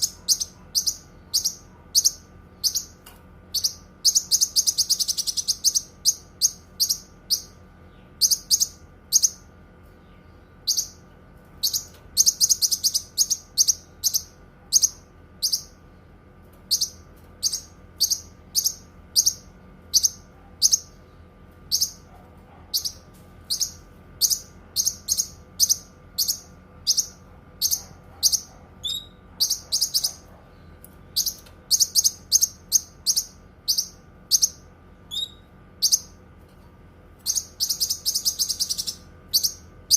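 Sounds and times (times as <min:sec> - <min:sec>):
bird chirping: 0:00.0 - 0:15.8, 0:16.7 - 0:21.1, 0:21.7 - 0:36.2, 0:37.2 - 0:39.9.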